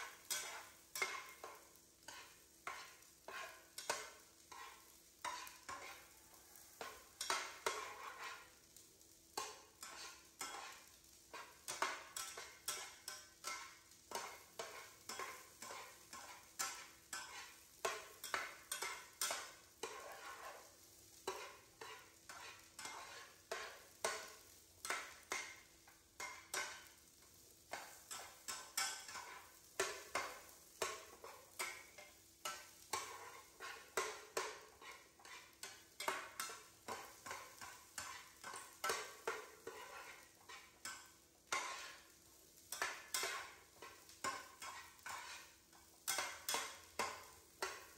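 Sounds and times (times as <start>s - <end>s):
corn sizzling: 0.0s - 47.9s
metal spatula scraping a pan: 0.0s - 47.9s.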